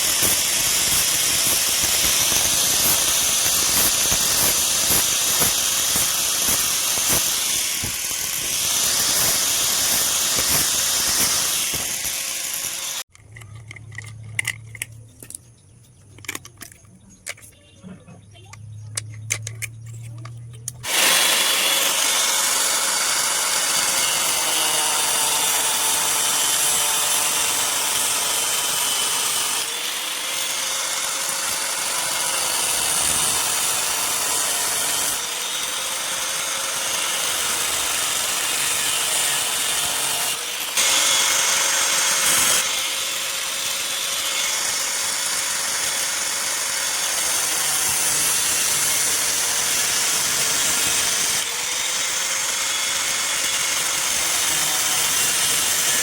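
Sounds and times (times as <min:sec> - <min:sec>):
grinder motor hum: 0:00.0 - 0:13.0, 0:19.2 - 0:56.0
grinder hissing on steel: 0:00.0 - 0:13.1, 0:20.8 - 0:56.0.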